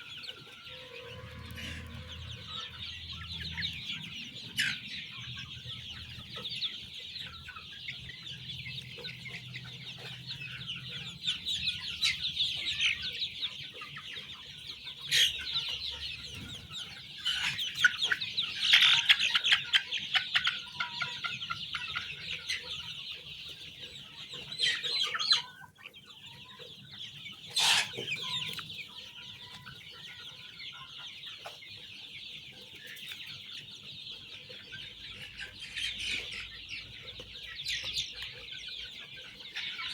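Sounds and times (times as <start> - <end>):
chicks peeping in chorus: 0.0 - 39.9.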